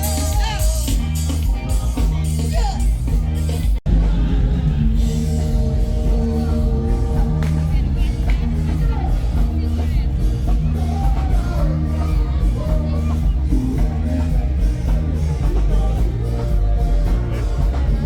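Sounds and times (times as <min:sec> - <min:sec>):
amplified band with singer: 0:00.0 - 0:18.0
crowd voices: 0:00.0 - 0:18.0.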